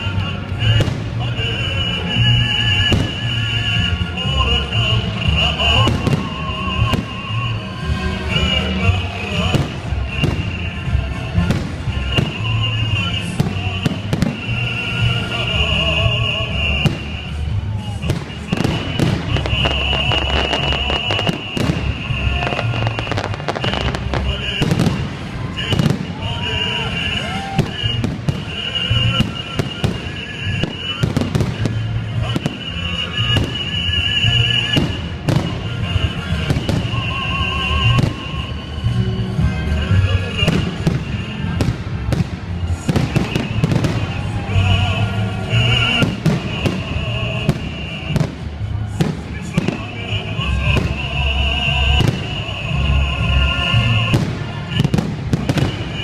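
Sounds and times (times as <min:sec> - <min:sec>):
fireworks bangs: 0:00.0 - 0:38.9, 0:39.7 - 0:56.0
music: 0:00.0 - 0:56.0.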